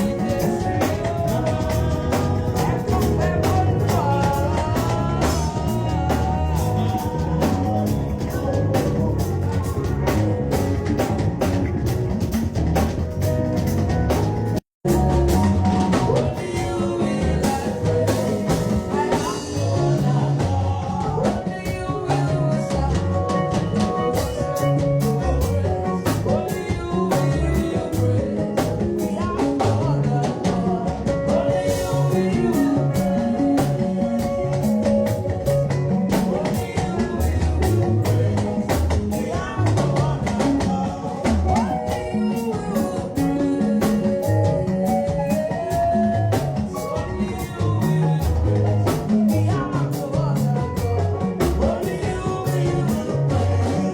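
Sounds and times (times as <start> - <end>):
drum kit beat: 0.0 - 53.9
live band playing: 0.0 - 53.9.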